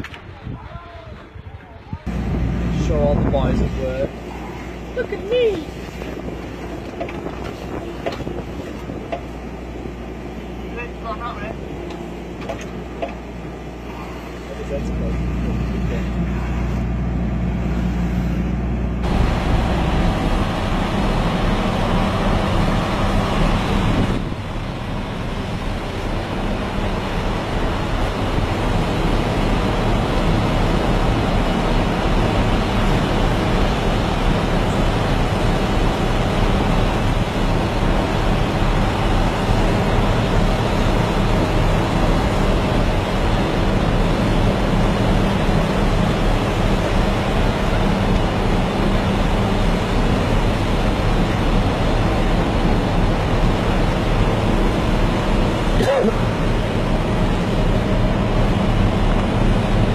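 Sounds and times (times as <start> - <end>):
heavy machinery engines running: 0.0 - 59.9.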